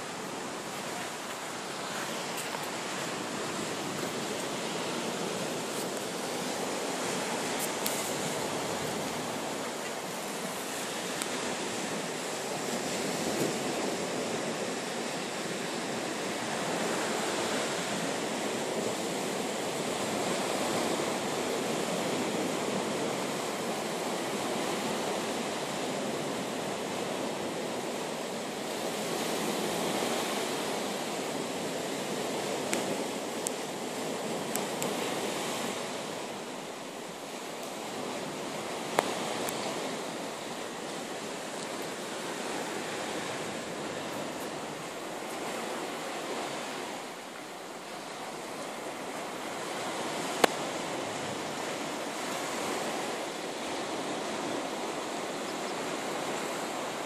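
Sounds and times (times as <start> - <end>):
sea surf washing onto beach: 0.0 - 57.0.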